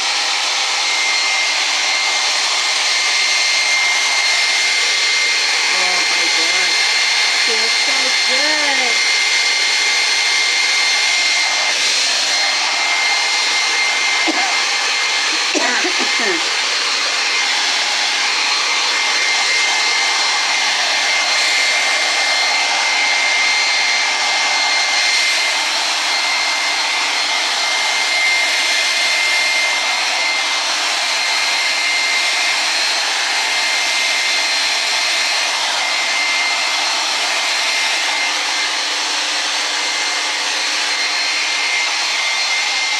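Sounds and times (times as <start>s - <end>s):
hair dryer running: 0.0s - 42.9s.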